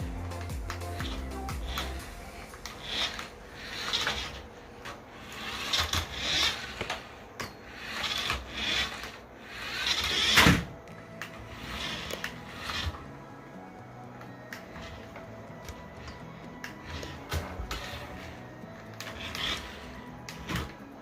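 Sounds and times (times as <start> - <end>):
toy car motor whirring: 0.8 - 13.1, 14.4 - 21.0.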